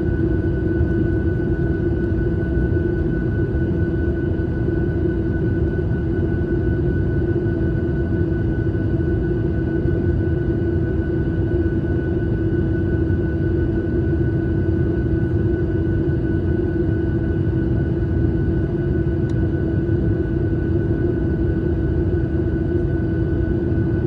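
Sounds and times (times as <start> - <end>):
engine and airflow drone: 0.0 - 24.0.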